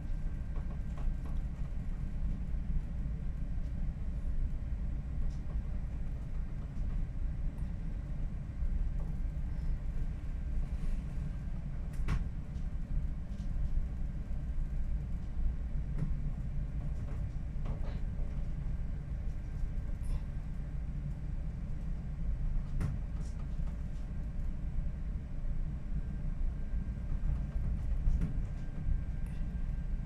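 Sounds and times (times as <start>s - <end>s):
ship low rumble: 0.0s - 30.0s.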